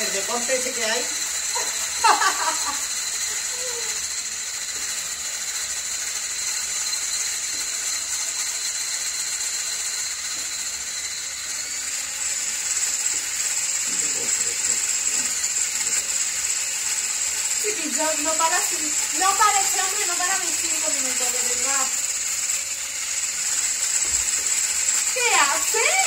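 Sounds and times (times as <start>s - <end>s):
electric hand whisk whining: 0.0s - 26.0s.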